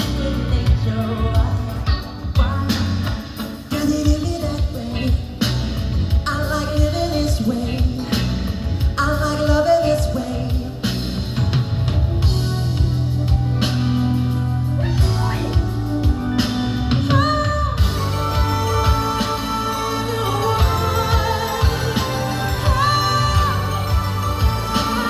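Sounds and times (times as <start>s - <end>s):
live band playing pop ballad: 0.0s - 25.0s
wordless singing: 0.0s - 25.0s.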